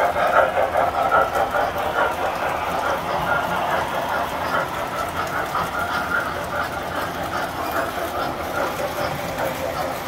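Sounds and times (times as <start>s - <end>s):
toy train rattling on track: 0.0s - 10.0s.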